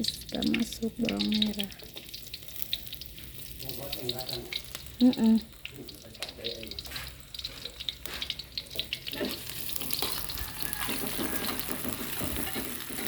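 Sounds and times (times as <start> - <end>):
shallots frying in hot oil: 0.0 - 13.0.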